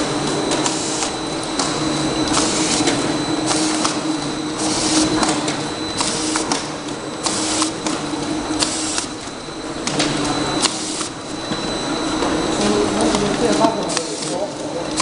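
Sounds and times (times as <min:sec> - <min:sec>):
machine motor hum: 0:00.0 - 0:15.0.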